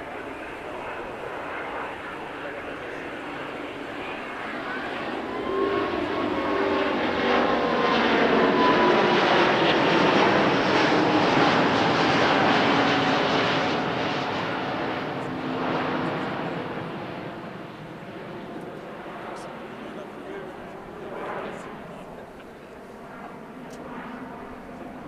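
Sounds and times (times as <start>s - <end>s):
jet airliner passing overhead: 0.0s - 25.0s.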